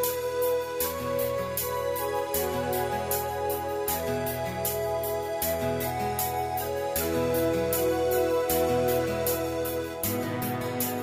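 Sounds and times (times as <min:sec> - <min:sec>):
instrumental backing track: 0:00.0 - 0:11.0.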